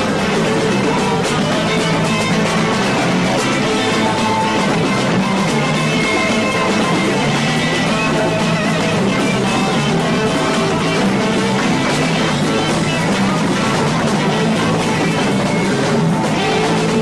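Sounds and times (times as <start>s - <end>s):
drum kit playing: 0.0s - 17.0s
electric guitar: 0.0s - 17.0s
rock band jamming: 0.0s - 17.0s.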